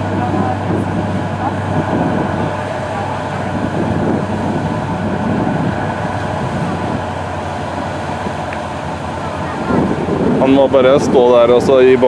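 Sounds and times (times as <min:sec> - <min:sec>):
boat engine at full throttle: 0:00.0 - 0:12.0
propeller churning water: 0:00.0 - 0:12.0.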